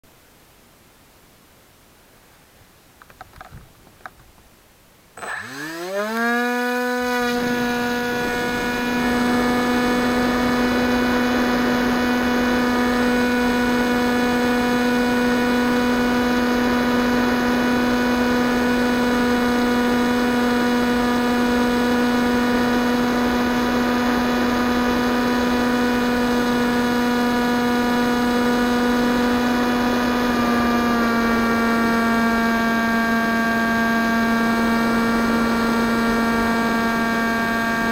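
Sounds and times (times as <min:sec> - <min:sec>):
model plane motor whine: 0:05.2 - 0:37.9.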